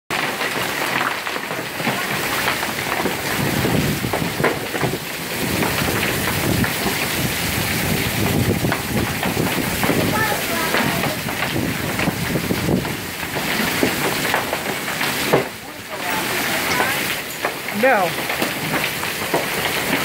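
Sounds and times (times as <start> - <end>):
hail on concrete and lawn: 0.1 - 20.0.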